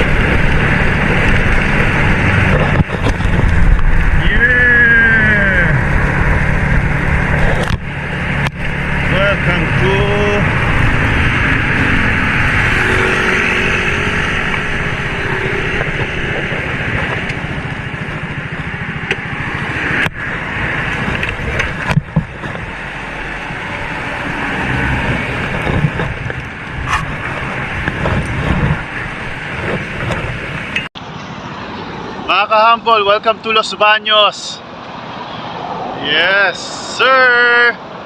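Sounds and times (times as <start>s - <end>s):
motorcycle engine rumble: 0.0s - 32.1s
wind and road rush: 0.0s - 38.0s.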